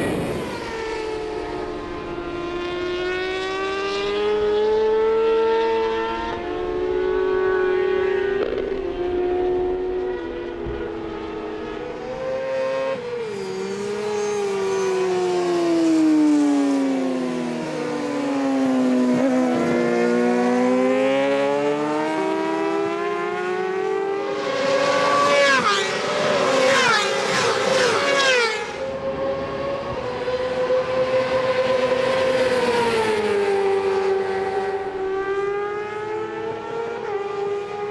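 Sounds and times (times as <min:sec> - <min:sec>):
racing motorcycles passing: 0:00.0 - 0:37.9.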